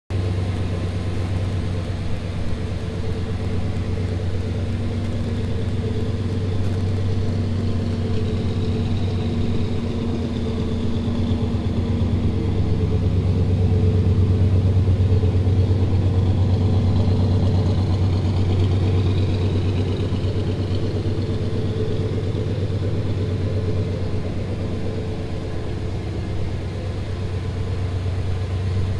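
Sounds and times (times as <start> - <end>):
pickup truck engine idling: 0.1 - 28.9.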